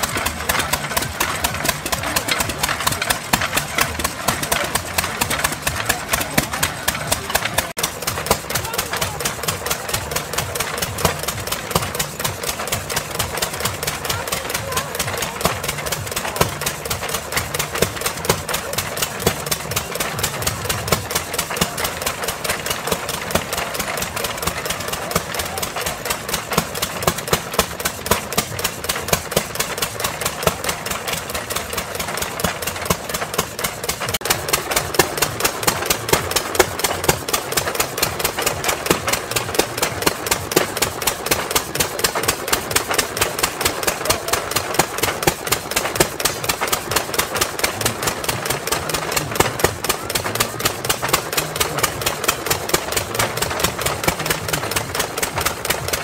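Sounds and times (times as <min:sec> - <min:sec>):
drag saw clattering through log: 0:00.0 - 0:56.0
stationary engines running: 0:00.0 - 0:56.0.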